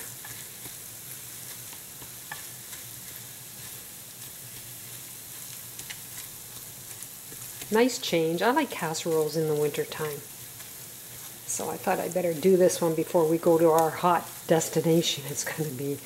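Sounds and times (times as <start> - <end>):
spatula stirring: 0.0 - 15.8
food sizzling in a skillet: 0.0 - 16.0.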